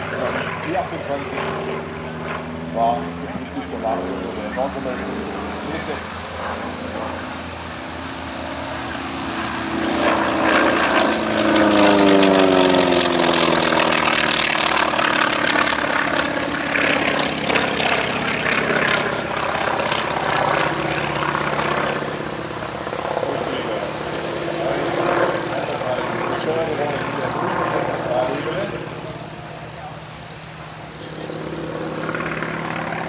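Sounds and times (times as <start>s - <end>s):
propeller plane engine passing overhead: 0.0s - 33.0s.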